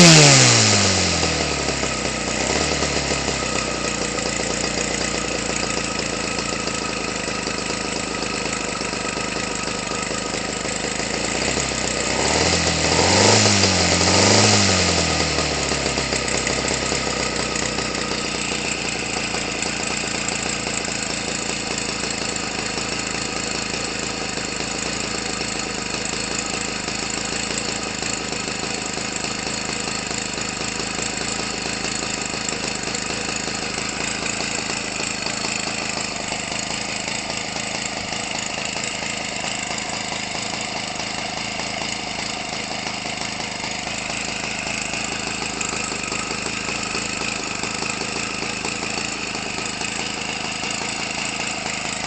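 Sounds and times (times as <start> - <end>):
two-stroke engine idling: 0.0 - 52.0.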